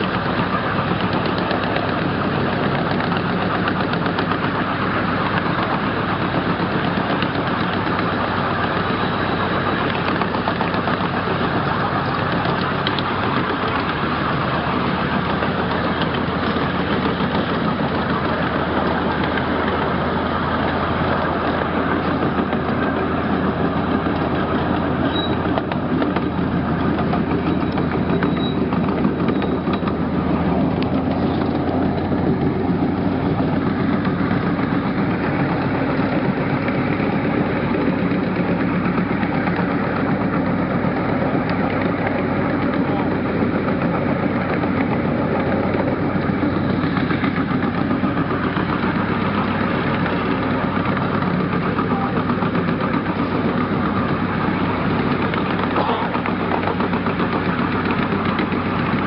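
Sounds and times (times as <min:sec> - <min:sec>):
locomotive engine humming: 0:00.0 - 0:59.0
train wheels clattering on rails: 0:00.0 - 0:59.0.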